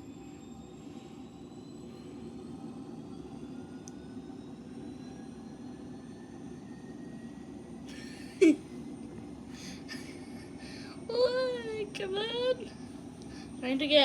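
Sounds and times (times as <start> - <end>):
distant aircraft engine: 0.0 - 14.0
faint rising whine: 0.0 - 14.0.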